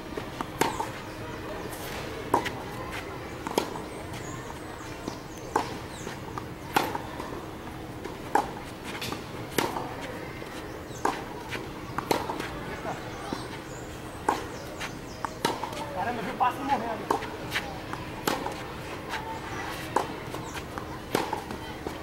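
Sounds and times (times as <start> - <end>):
tennis ball struck by rackets: 0.4 - 7.3, 7.9 - 16.1, 17.0 - 22.0.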